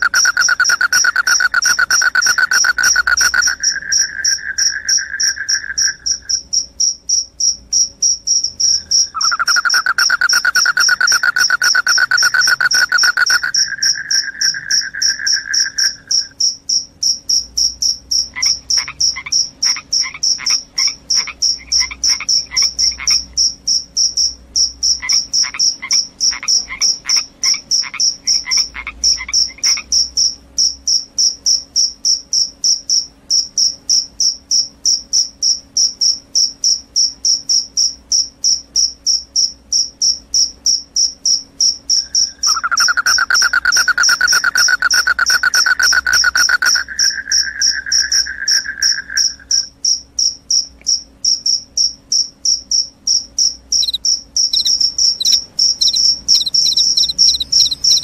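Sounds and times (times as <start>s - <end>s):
crickets chirping: 0.0s - 58.0s
low continuous trill: 0.0s - 58.0s
lower pulsed insect call: 0.0s - 58.0s.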